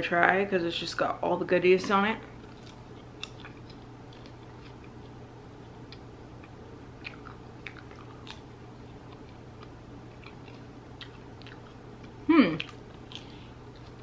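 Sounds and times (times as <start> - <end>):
popcorn crunching while chewing: 2.4 - 14.0.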